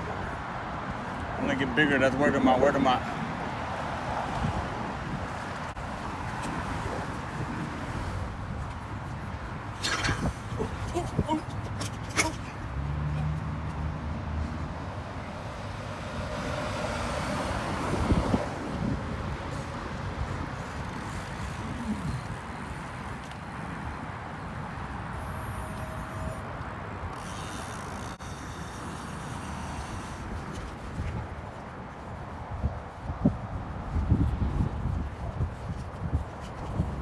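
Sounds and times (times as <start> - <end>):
wind rushing over microphone: 0.0 - 27.2, 29.6 - 37.0
street traffic passing: 0.0 - 37.0.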